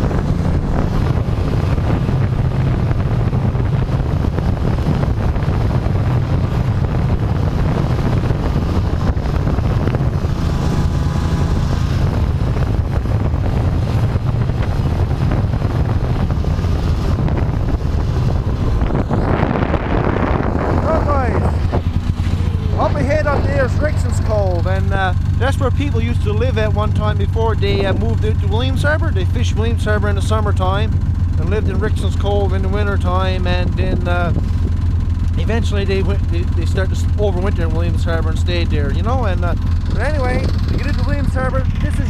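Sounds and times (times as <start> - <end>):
snowmobile engine running: 0.0 - 42.0.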